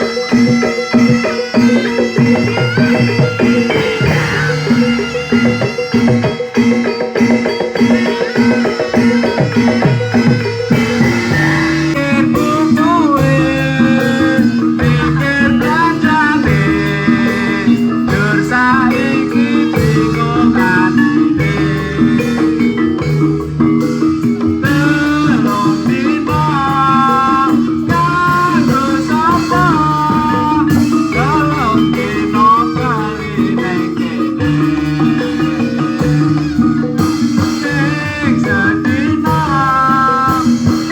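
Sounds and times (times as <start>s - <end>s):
gamelan music: 0.0s - 40.9s
ornamented melody line: 0.0s - 40.9s
tuned percussion notes: 0.0s - 40.9s.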